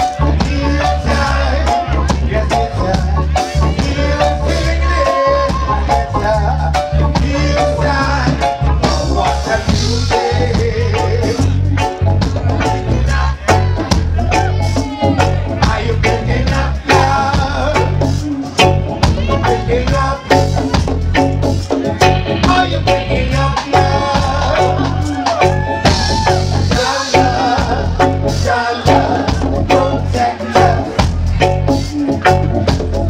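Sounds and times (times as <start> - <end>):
lead vocal singing: 0.0 - 21.0, 21.7 - 33.0
congas: 0.0 - 33.0
heavy bass line: 0.0 - 33.0
reggae band playing: 0.0 - 33.0.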